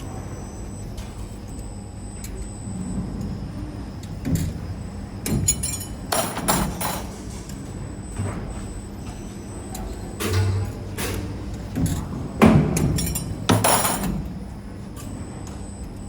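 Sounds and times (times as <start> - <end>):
wire forming machine humming: 0.0 - 16.0.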